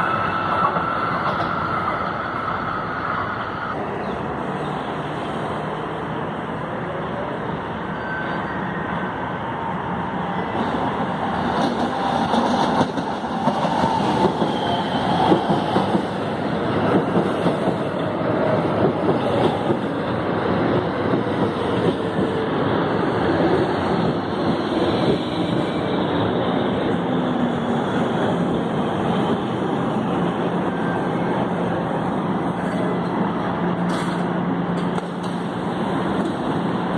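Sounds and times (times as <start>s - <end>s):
train wheels rumbling on rails: 0.0s - 7.9s, 9.1s - 36.9s.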